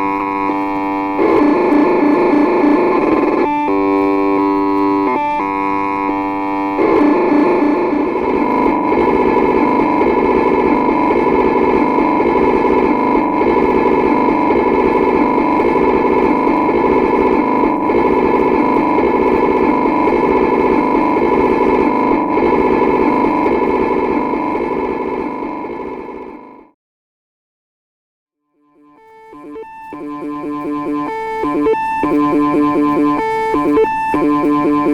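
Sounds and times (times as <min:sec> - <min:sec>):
steady high tone: 0:00.0 - 0:26.2, 0:29.0 - 0:34.9
stepped electronic tones: 0:00.0 - 0:26.6, 0:28.8 - 0:34.9
warbling computer tones: 0:00.0 - 0:26.6, 0:28.8 - 0:34.9.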